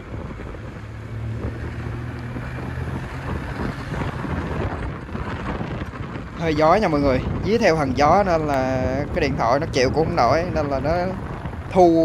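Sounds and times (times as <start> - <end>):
low engine drone: 0.0 - 12.0
wind noise on microphone: 0.0 - 12.0.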